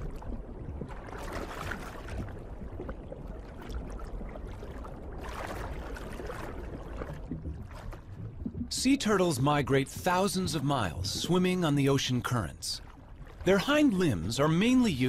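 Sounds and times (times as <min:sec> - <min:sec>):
underwater rushing gurgling water: 0:00.0 - 0:15.0.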